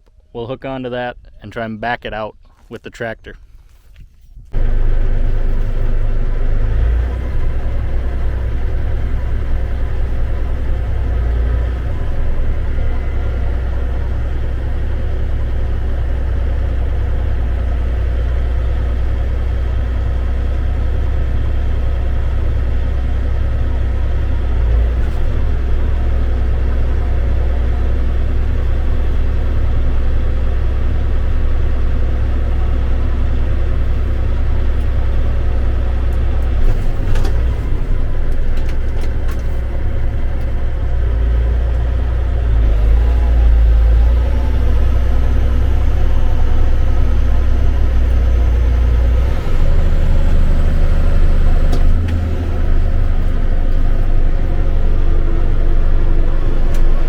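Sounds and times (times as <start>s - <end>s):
diesel tractor engine rumbling: 4.5s - 57.0s.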